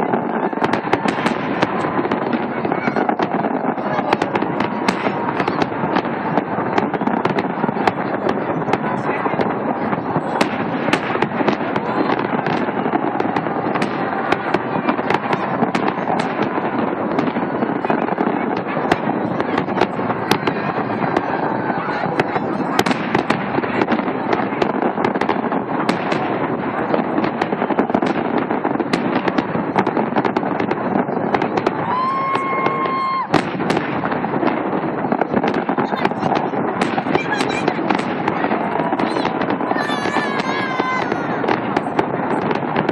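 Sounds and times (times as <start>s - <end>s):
fireworks popping and crackling: 0.0s - 42.9s.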